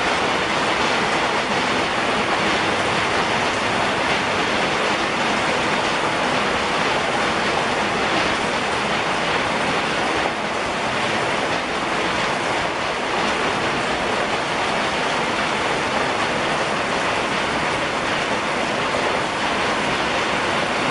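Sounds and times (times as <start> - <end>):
heavy rain on trees and deck: 0.0 - 20.9.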